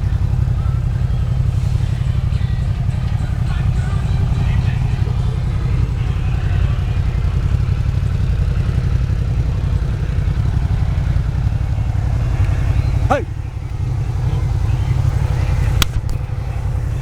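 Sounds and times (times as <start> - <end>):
motor vehicle engine rumbling: 0.0 - 17.0.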